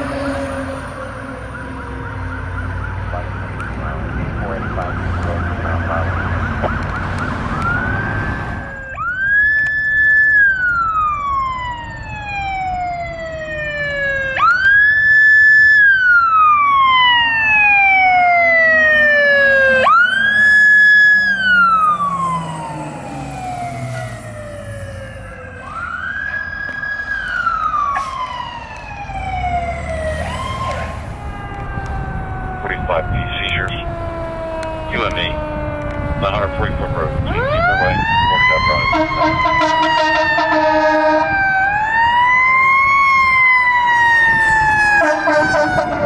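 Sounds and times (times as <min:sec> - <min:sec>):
fire truck siren wailing: 0:00.0 - 0:46.0.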